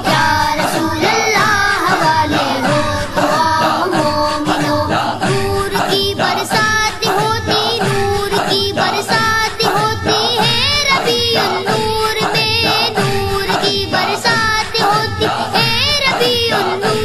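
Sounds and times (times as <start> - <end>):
boys singing devotional song: 0.0 - 17.0.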